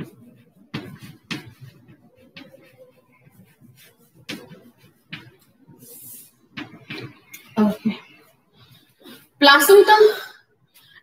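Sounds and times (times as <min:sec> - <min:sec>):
faint chalk scratching: 0:00.0 - 0:09.4.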